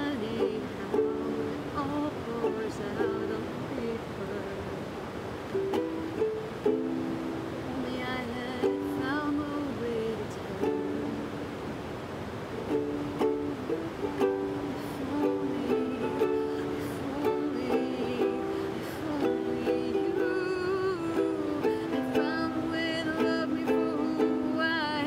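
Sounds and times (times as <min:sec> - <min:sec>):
ukulele playing: 0:00.0 - 0:04.0, 0:05.4 - 0:11.5, 0:12.6 - 0:25.0
river water rushing: 0:00.0 - 0:25.0.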